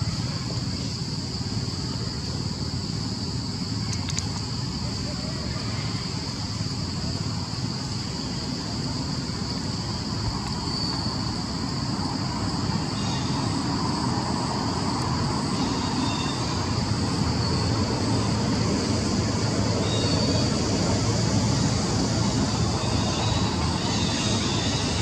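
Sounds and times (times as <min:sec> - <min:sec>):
high-pitched insect drone: 0:00.0 - 0:25.0.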